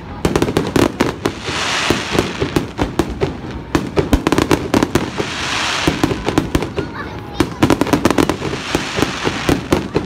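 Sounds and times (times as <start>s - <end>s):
fireworks bursting with bangs: 0.0s - 10.0s
fireworks crackling hiss: 0.0s - 10.0s.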